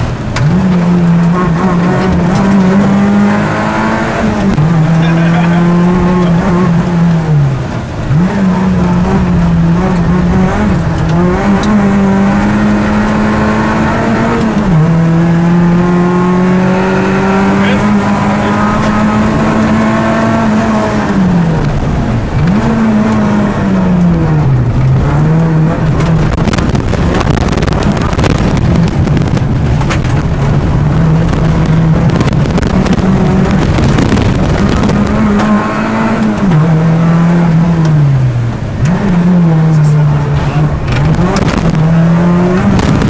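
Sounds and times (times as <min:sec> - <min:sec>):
rally car engine revving: 0:00.0 - 0:43.0
tyre and road noise: 0:00.0 - 0:43.0.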